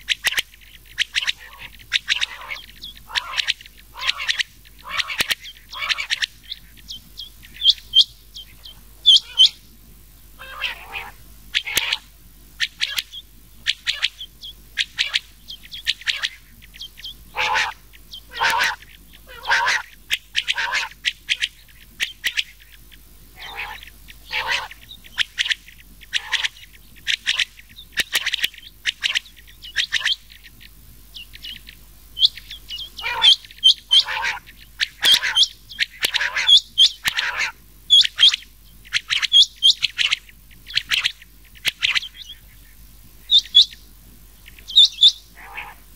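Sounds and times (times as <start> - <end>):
quail calls: 0.0 - 9.7, 10.4 - 45.9.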